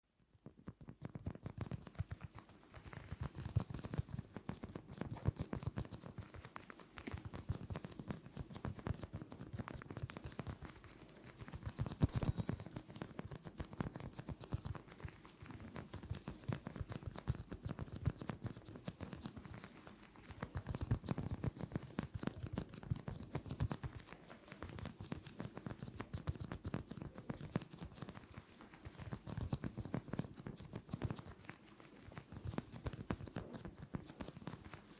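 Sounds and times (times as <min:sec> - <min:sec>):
fast tapping and scratching: 0:00.2 - 0:34.9.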